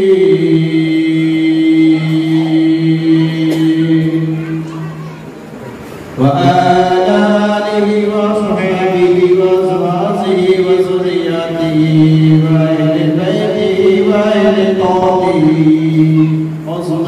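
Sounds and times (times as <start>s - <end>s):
man chanting in long notes: 0.0s - 4.8s, 6.2s - 17.0s.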